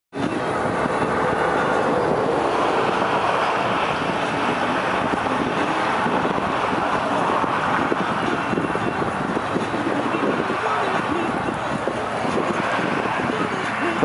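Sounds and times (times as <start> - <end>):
highway traffic rushing: 0.1 - 14.0.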